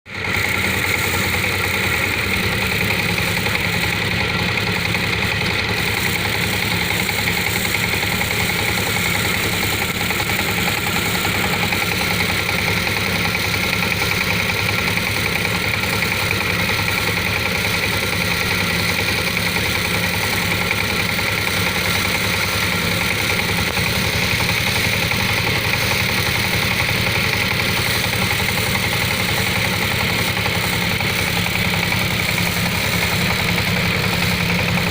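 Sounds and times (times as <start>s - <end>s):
small tiller engine running: 0.0s - 34.9s.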